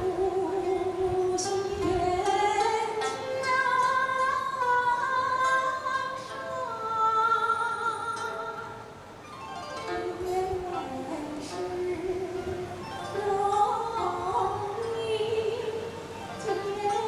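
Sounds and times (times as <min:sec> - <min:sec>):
woman singing long notes: 0:00.0 - 0:08.8, 0:09.9 - 0:17.0.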